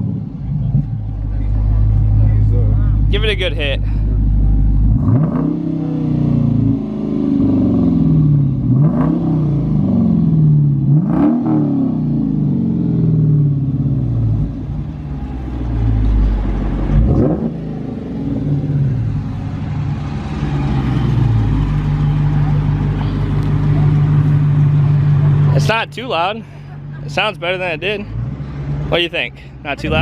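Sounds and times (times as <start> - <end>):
car engine idling: 0.0 - 11.1, 11.8 - 30.0
car engine revving: 0.0 - 30.0.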